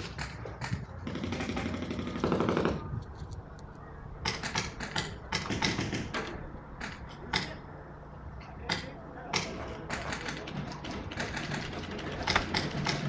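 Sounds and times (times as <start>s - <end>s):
paintball gunfire: 0.0s - 2.9s, 4.2s - 7.6s, 8.7s - 13.0s.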